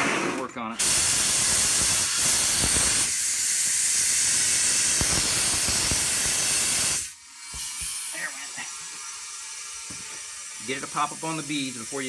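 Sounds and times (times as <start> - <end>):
compressed air hissing into tire: 0.8 - 12.0.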